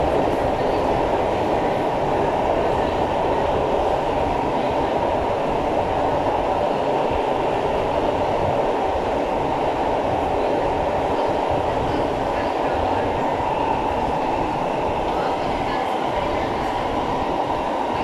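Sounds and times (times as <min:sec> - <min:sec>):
metro car wheels rumbling on rail: 0:00.0 - 0:18.0.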